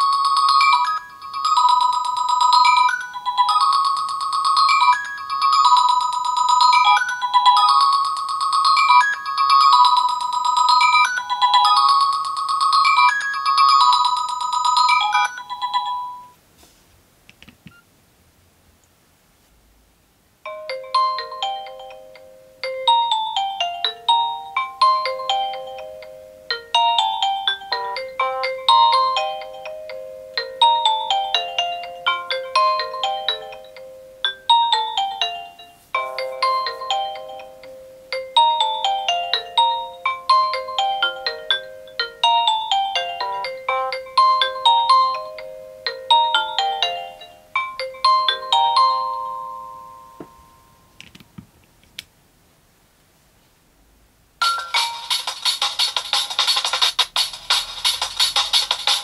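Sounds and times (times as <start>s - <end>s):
synthesized ringtone melody: 0.0s - 16.4s, 20.5s - 50.9s, 54.4s - 59.0s.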